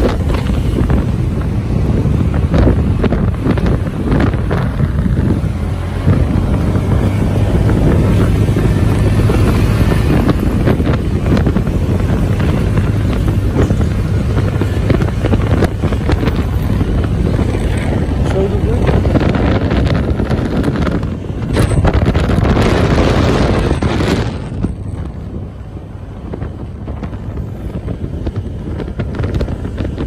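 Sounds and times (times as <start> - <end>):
motorcycle engine hum: 0.0 - 30.0
road noise: 0.0 - 30.0
wind rushing over microphone: 0.0 - 30.0.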